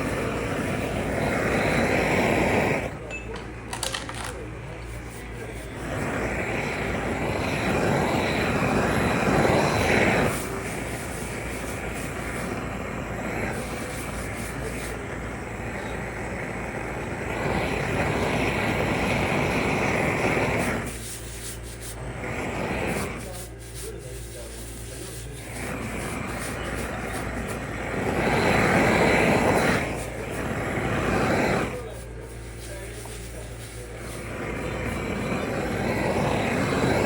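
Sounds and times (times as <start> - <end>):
workshop machinery rushing: 0.0 - 37.0.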